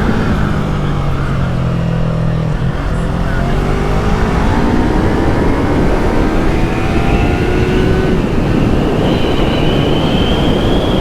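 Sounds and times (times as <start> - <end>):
heavy wind noise: 0.0 - 11.0
motorcycle engine at high revs: 0.0 - 11.0.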